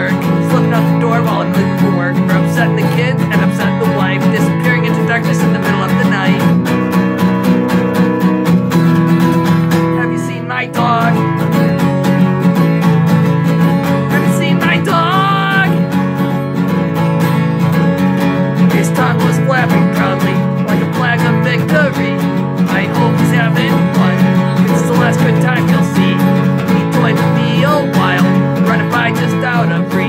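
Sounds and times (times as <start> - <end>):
man singing: 0.0 - 6.8, 9.6 - 16.2, 17.6 - 30.0
acoustic guitar strumming: 0.0 - 30.0.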